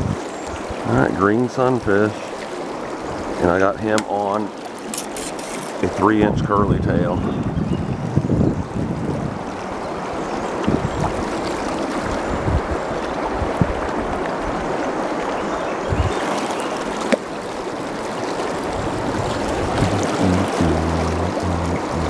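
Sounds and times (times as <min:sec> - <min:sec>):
stream water rushing: 0:00.0 - 0:06.4, 0:08.0 - 0:22.0.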